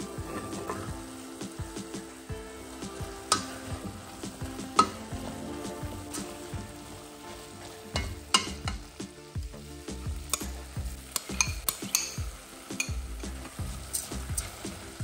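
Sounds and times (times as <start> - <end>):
vegetables sizzling: 0.0 - 15.0.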